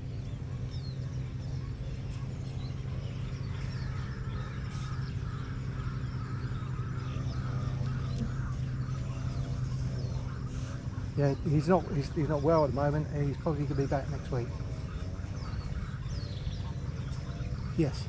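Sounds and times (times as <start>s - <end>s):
birds chirping and cawing: 0.0s - 18.0s
low hum: 0.0s - 18.0s.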